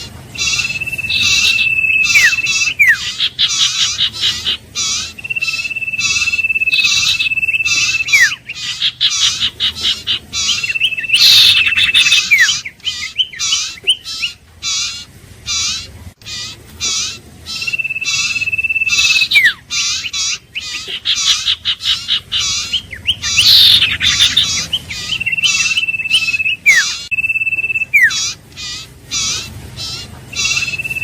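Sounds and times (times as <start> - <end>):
rapid high bird chirps: 0.0 - 31.0.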